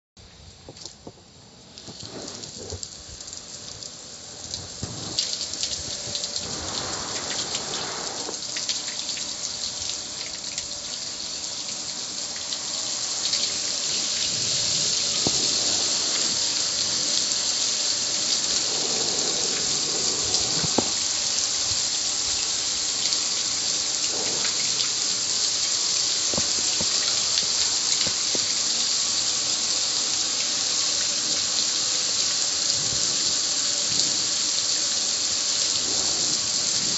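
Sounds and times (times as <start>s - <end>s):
hose spray hissing on metal: 1.7s - 36.9s.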